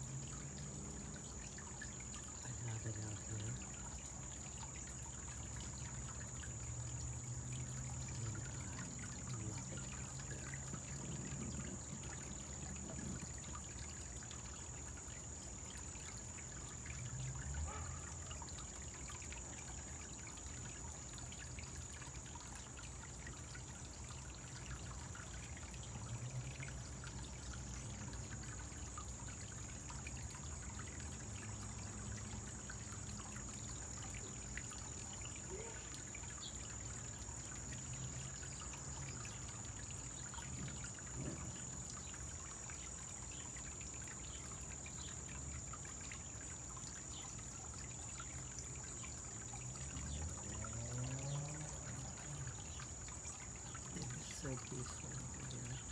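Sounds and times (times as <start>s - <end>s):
small waterfall trickling: 0.0s - 55.9s.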